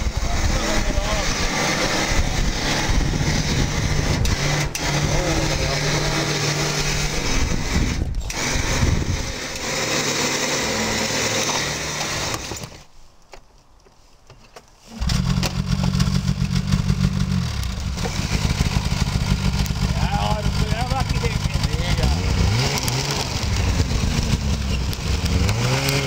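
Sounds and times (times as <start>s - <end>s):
snowmobile engine idling: 0.0s - 12.5s, 14.9s - 26.0s.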